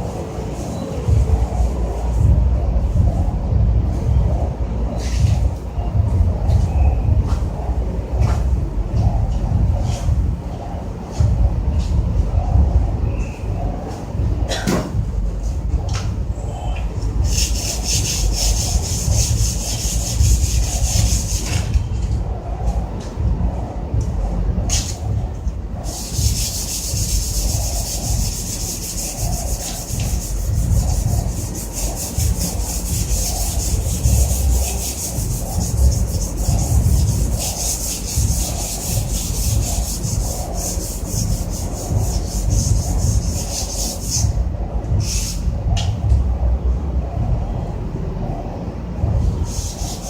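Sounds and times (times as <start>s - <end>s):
low rumble: 0.0s - 50.0s.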